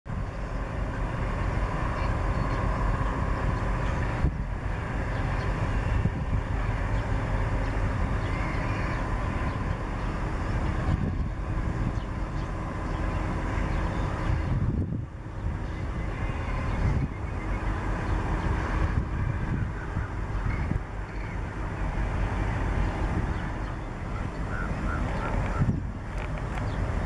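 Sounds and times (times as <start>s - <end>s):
low background rumble: 0.1s - 27.0s.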